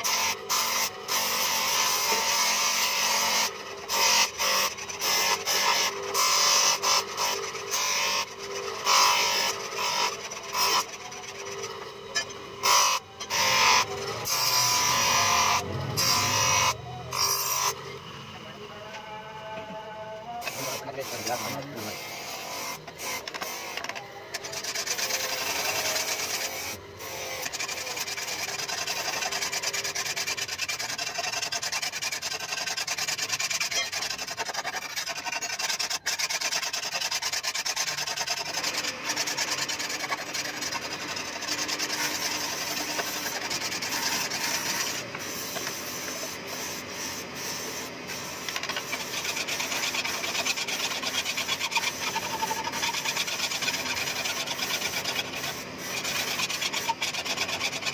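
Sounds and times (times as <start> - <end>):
sharpener scraping knife blade: 0.0 - 17.8, 20.4 - 57.9.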